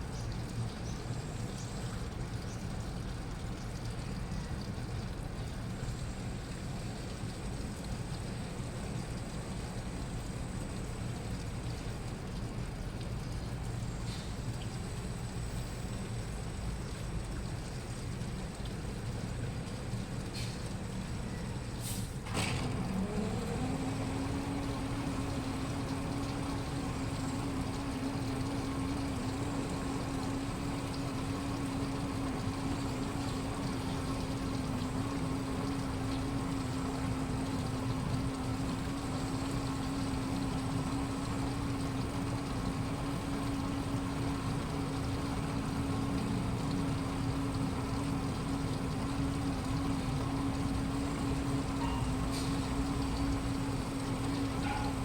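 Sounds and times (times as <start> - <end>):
mechanical and water noise: 0.0 - 55.0
washing machine motor hum: 0.0 - 55.0.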